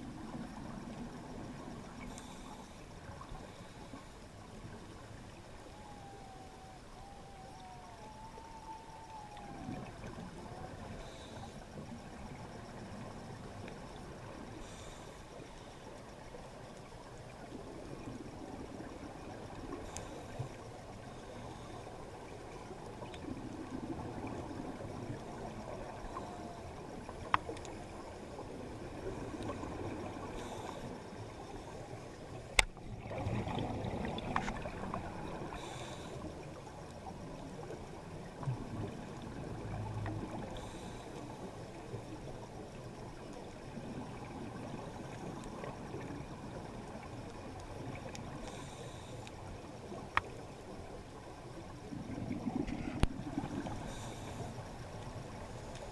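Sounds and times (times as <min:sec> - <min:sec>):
muffled rushing water: 0:00.0 - 0:55.9.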